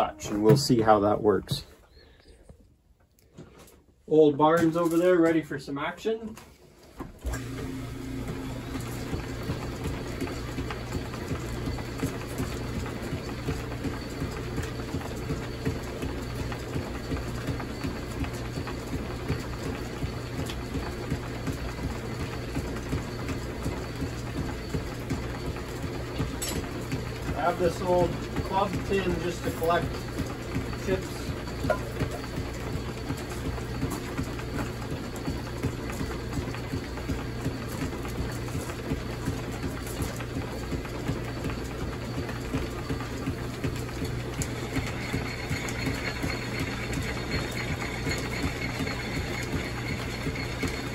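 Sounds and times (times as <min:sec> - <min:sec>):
rapid clicking of belt drive: 0:06.2 - 0:50.9
drill press humming: 0:06.8 - 0:50.9.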